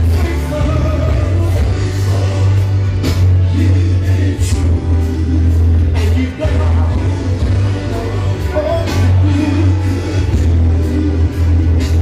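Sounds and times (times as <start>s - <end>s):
loud music with singing: 0.0s - 12.0s.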